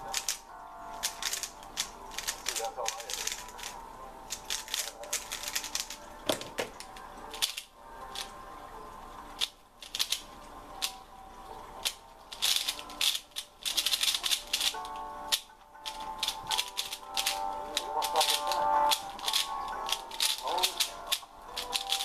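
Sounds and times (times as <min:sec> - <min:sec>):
plastic puzzle cubes clacking: 0:00.0 - 0:08.4, 0:09.4 - 0:11.0, 0:11.8 - 0:22.0.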